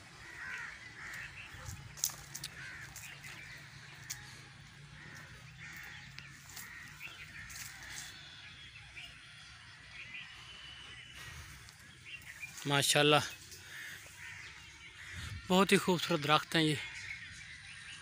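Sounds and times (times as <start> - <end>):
crows cawing: 0.0 - 17.4.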